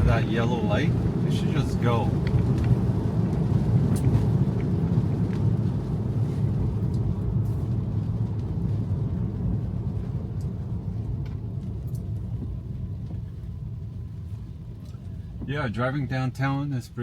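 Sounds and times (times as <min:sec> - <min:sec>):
tyre and road noise on wet street: 0:00.0 - 0:17.0.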